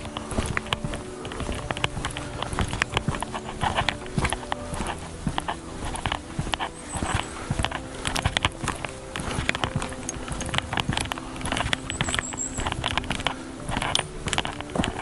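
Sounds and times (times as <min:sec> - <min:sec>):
footsteps on forest path: 0:00.0 - 0:15.0.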